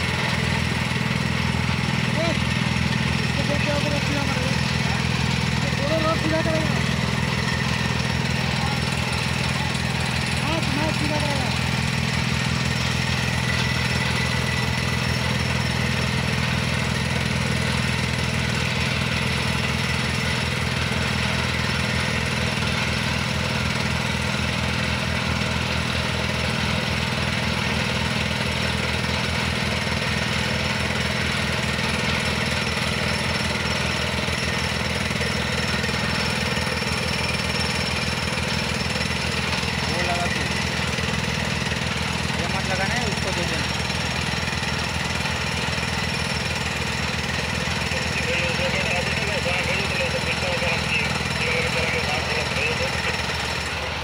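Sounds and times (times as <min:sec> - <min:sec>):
rock drill hammering: 0:00.0 - 0:48.2
diesel engines running: 0:00.0 - 0:54.0.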